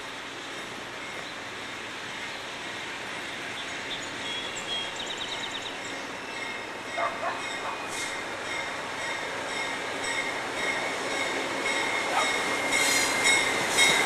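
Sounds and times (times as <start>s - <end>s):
distant diesel train approaching: 0.0s - 14.0s.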